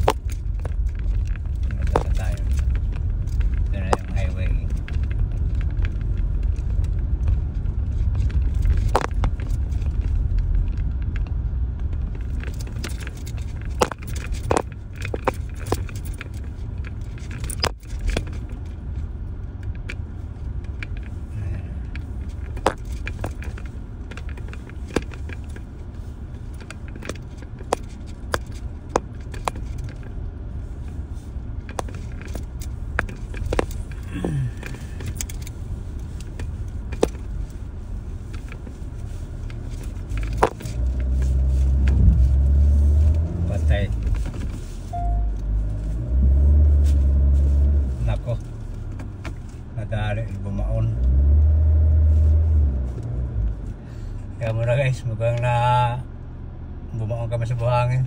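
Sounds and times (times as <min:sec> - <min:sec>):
car engine and road rumble: 0:00.0 - 0:58.0
rattles inside car: 0:00.0 - 0:58.0.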